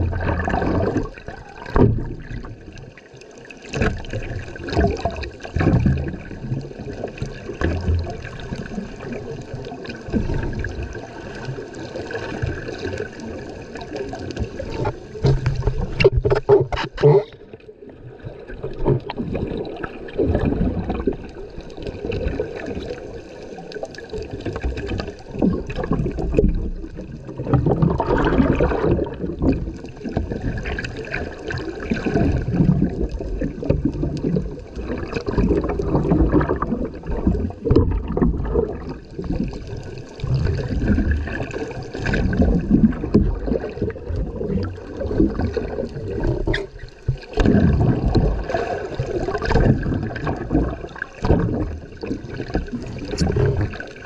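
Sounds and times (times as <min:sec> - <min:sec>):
muffled underwater sloshing: 0:00.0 - 0:54.0.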